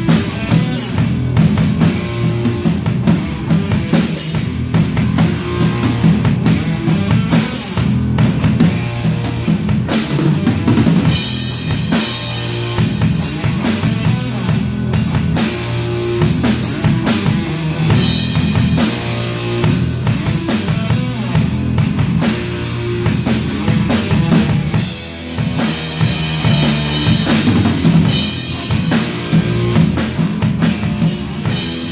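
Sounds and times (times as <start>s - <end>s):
rock band playing: 0.0s - 31.9s.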